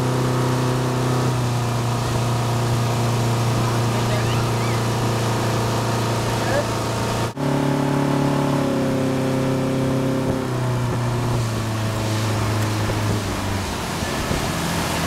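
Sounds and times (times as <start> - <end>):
motorboat engine running: 0.0 - 15.0
rush of boat wake: 0.0 - 15.0.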